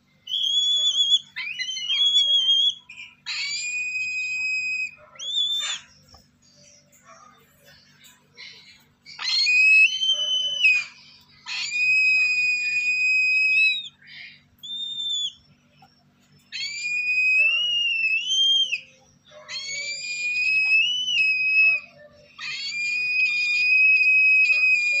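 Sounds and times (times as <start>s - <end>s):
cockatoo nestlings begging calls: 0.3s - 25.0s.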